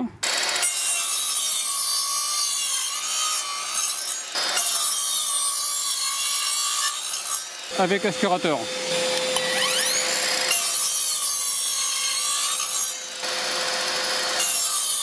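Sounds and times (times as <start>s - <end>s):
mitre saw cutting wood: 0.2s - 15.0s.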